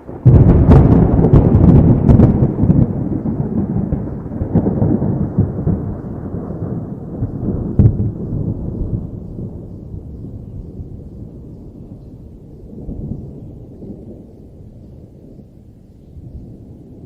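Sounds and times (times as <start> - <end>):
sharp thunder cracks: 0.0 - 15.6
thunder rumbling: 0.0 - 17.0.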